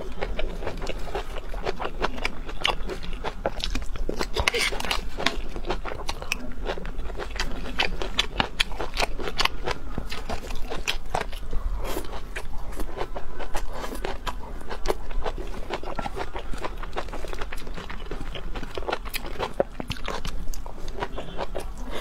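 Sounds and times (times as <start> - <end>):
crisp chewing crunches: 0.0 - 22.0.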